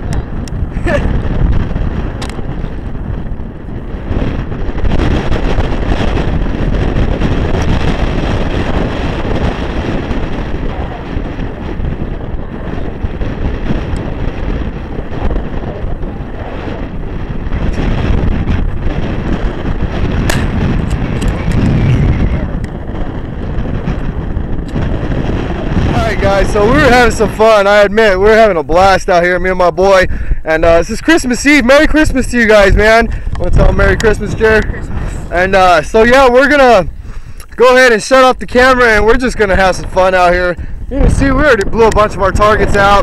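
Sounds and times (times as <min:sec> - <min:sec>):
strong wind buffeting microphone: 0:00.0 - 0:43.0.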